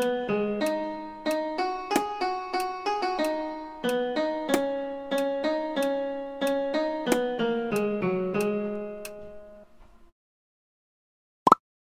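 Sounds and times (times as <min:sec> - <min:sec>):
keyboard melody: 0:00.0 - 0:09.7.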